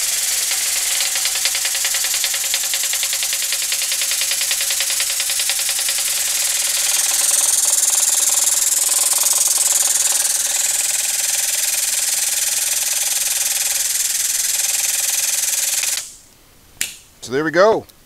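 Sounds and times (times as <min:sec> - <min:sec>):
air-driven hydraulic pump running: 0:00.0 - 0:16.2
rattle of jack: 0:00.0 - 0:16.3.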